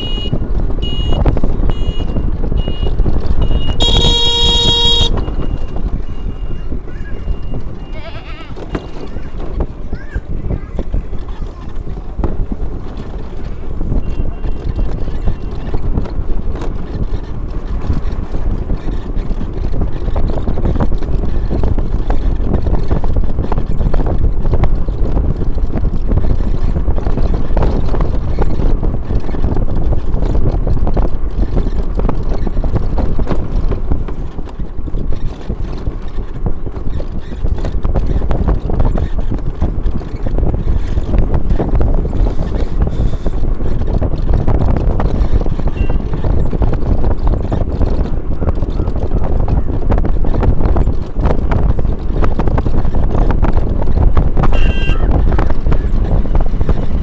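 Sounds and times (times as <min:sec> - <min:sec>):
knocks and crackles: 0:00.0 - 0:57.0
wind buffeting microphone: 0:00.0 - 0:57.0.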